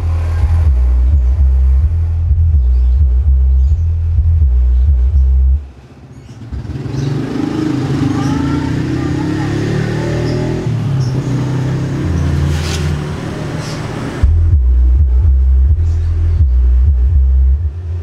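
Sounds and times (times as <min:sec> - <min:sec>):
subwoofer playing deep bass notes: 0:00.0 - 0:05.7, 0:06.8 - 0:18.0.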